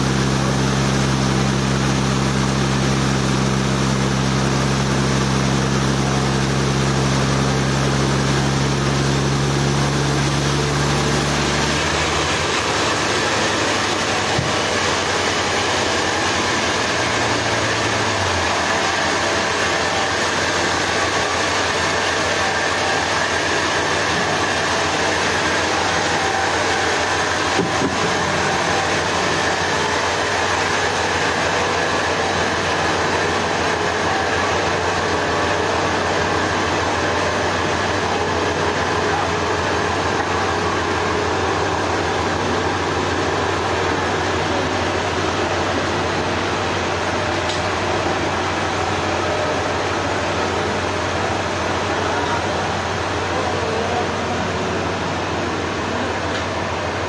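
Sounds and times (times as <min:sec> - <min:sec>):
low engine hum: 0:00.0 - 0:57.0
sawmill machinery running: 0:00.0 - 0:57.0.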